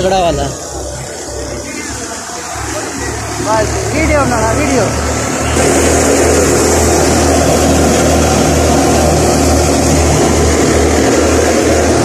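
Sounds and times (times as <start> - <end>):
threshing machine engine hum: 0.0 - 12.0
threshing rattle and rush: 0.6 - 12.0.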